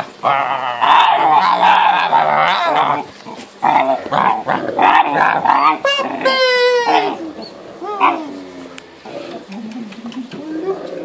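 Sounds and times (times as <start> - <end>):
puppies growling in play: 0.0 - 11.0.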